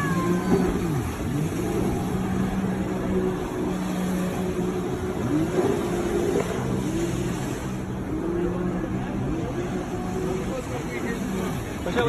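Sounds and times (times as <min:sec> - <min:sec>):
jet ski engine: 0:00.0 - 0:12.0
water rushing: 0:00.0 - 0:12.0
wind: 0:00.0 - 0:12.0.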